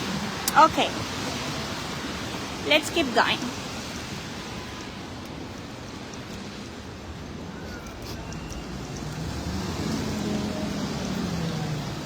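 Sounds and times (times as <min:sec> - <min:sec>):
rain hiss: 0:00.0 - 0:12.0
traffic on wet roads: 0:00.0 - 0:12.0.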